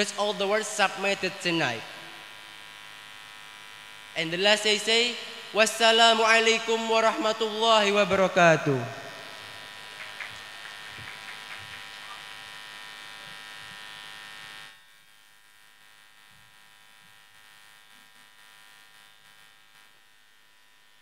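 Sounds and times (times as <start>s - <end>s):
electrical buzz and hum: 0.0s - 21.0s.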